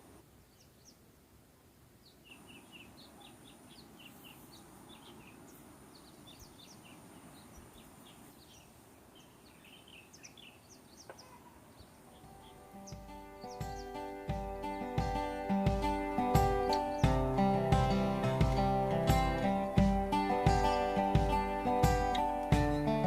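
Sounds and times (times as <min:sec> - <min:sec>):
low steady background hiss: 0:00.0 - 0:23.0
small birds chirping: 0:00.0 - 0:23.0.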